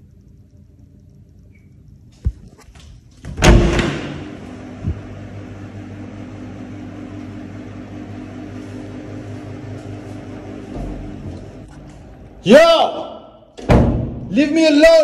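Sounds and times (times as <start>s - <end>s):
low mechanical hum: 0.0s - 14.8s.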